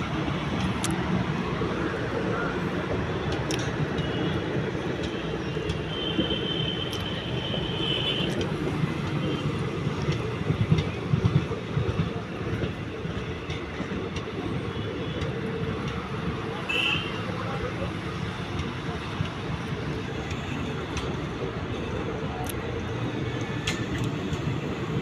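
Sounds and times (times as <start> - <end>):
clicks and knocks of train: 0.0 - 25.0
train rumbling on rails: 0.0 - 25.0.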